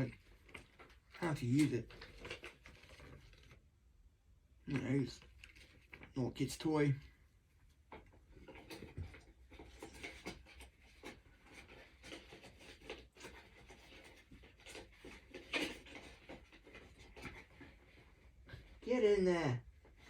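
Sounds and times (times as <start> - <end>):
paper and cardboard rustling: 0.0 - 3.7, 4.7 - 7.2, 7.8 - 18.8.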